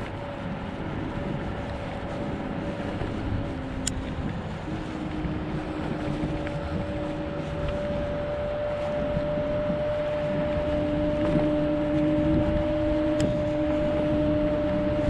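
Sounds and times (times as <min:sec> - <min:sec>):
electric scooter motor whine: 0:00.0 - 0:15.0
lower hum: 0:00.0 - 0:15.0
rushing wind: 0:00.0 - 0:15.0.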